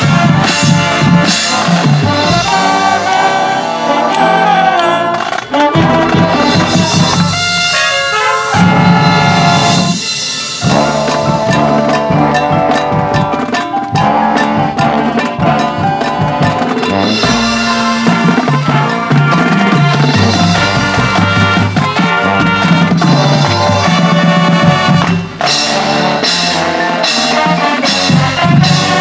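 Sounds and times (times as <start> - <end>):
rapid drum strokes: 0.0 - 4.4, 5.2 - 7.8, 8.5 - 29.0
marching band playing: 0.0 - 29.0.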